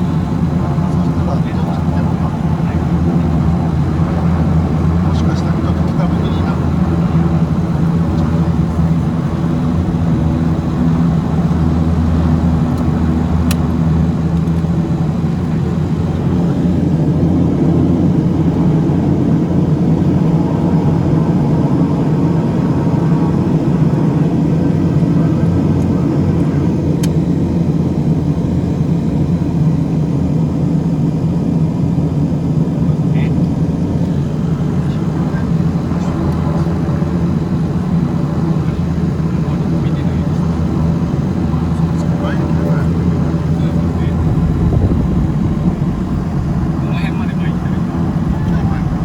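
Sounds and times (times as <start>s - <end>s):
turboprop engines humming: 0.0s - 49.0s.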